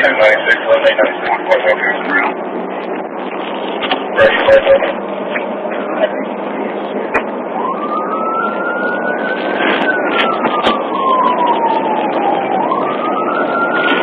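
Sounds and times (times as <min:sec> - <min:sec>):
police siren wailing: 0:00.0 - 0:05.1, 0:06.8 - 0:14.0
road noise: 0:00.0 - 0:14.0.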